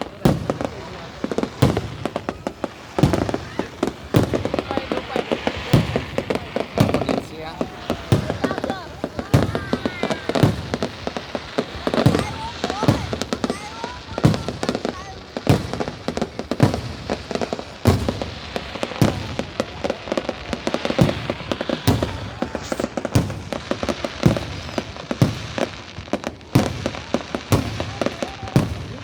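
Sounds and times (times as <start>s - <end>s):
fireworks bangs: 0.0s - 29.0s
fireworks crackling: 0.0s - 29.0s.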